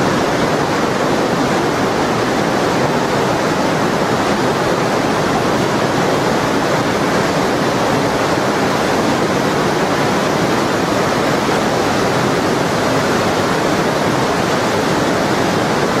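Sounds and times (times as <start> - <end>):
river rushing over boulders: 0.0 - 16.0.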